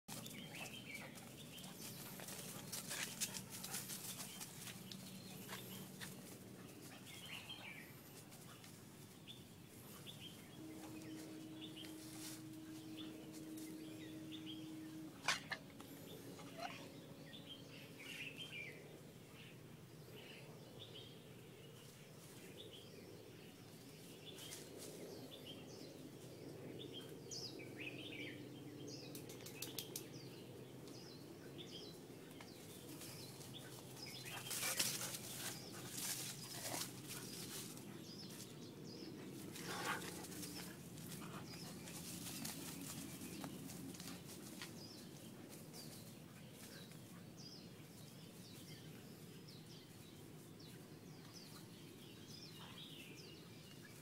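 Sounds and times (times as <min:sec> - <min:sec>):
faint low hum: 0:00.1 - 0:54.0
small birds chirping: 0:00.1 - 0:54.0.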